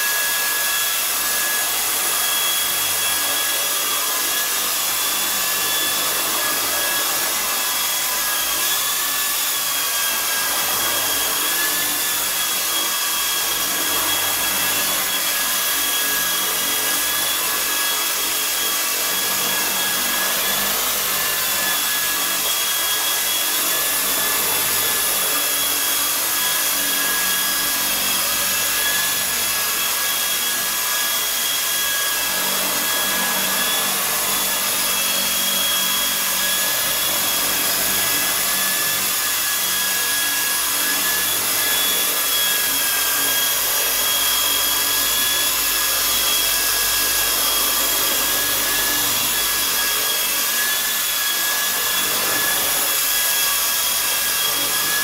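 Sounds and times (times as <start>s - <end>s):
electric motor whining: 0.0s - 55.0s.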